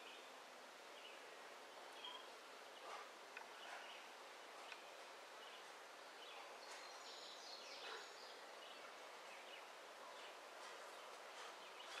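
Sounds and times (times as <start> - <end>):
birds chirping: 0.0 - 12.0
outdoor hiss: 0.0 - 12.0.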